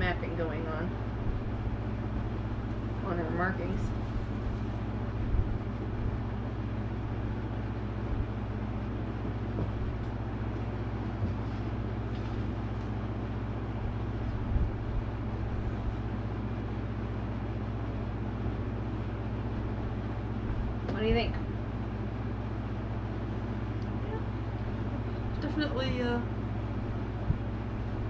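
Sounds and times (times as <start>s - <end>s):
low electrical hum and hiss: 0.0s - 28.0s.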